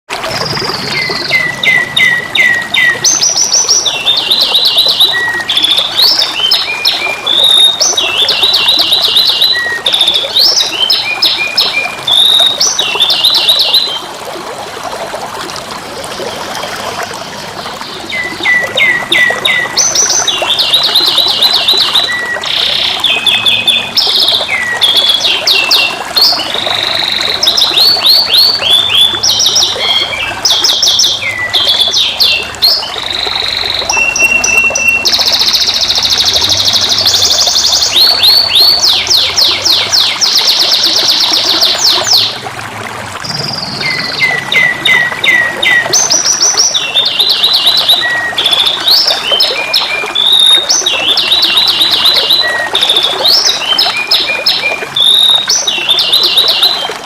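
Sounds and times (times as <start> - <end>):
canary singing trills: 0.8 - 14.0, 17.9 - 42.4, 43.2 - 56.8.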